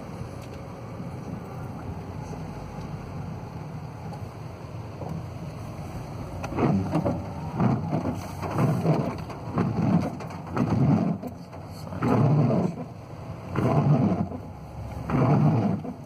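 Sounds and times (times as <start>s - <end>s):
rain on a car: 0.1s - 16.0s.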